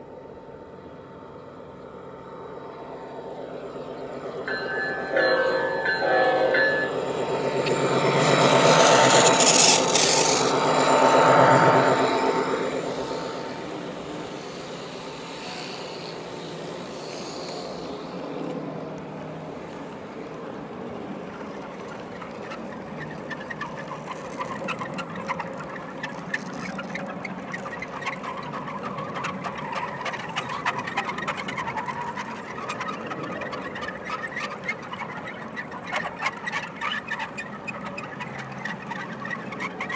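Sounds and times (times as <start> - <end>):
model locomotive passing: 0.0 - 39.9
wheels clicking on rail joints: 3.4 - 39.9
high-pitched wheel squeal: 4.3 - 18.6, 20.4 - 39.9.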